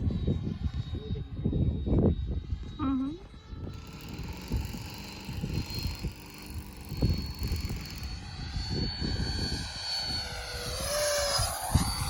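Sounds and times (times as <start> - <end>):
electric ducted fan whining: 0.0 - 12.0
wind buffeting microphone: 0.0 - 12.0.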